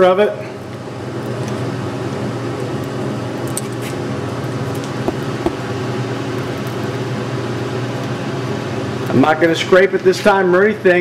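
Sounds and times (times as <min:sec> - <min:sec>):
machine hum with low tones: 0:00.0 - 0:09.3.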